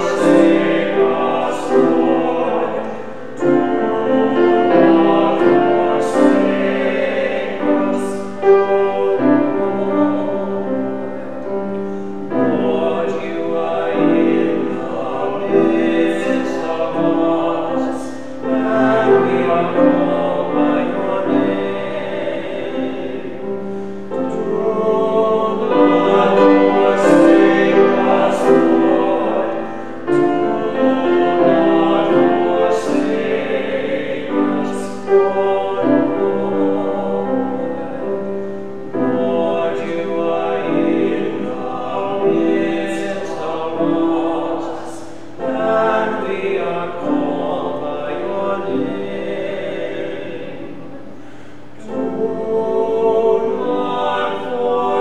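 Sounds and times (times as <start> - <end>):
group singing chant in harmony: 0.0 - 55.0.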